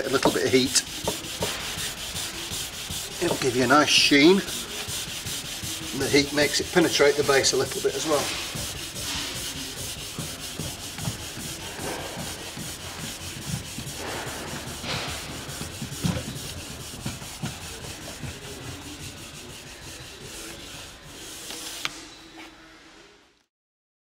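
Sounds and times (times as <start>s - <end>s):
cork block rubbing ski base: 0.0s - 22.6s.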